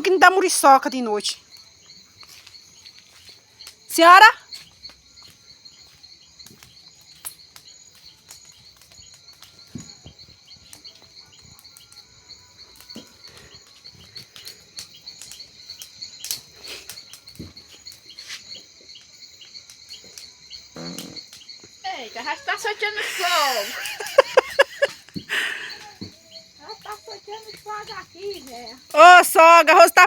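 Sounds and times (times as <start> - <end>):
crickets chirping: 0.0 - 30.0
sharp crackles and pops: 0.0 - 30.0.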